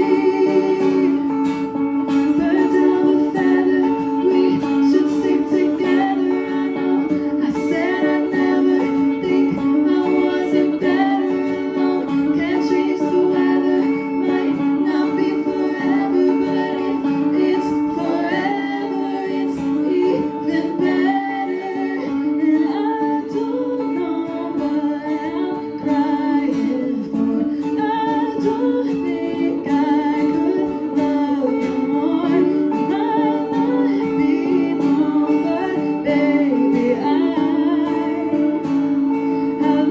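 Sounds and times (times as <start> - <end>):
person singing: 0.0 - 39.9
plucked guitar: 0.0 - 39.9.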